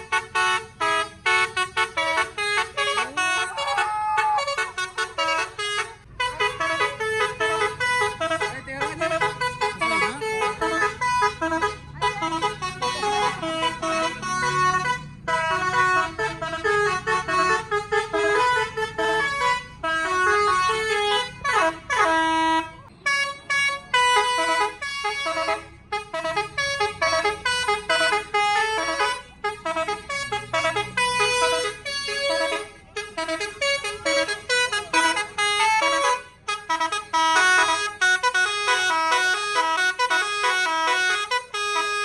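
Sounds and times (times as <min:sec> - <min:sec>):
musical air horn tune: 0:00.0 - 0:42.0.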